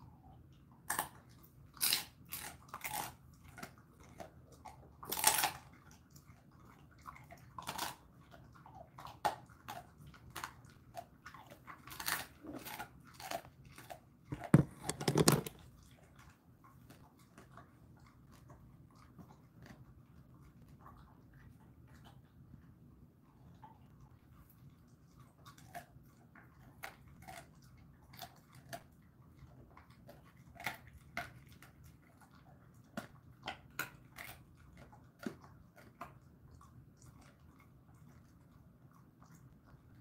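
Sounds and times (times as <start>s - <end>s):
dog crunching and chewing bone: 0.8s - 22.2s, 24.6s - 40.0s.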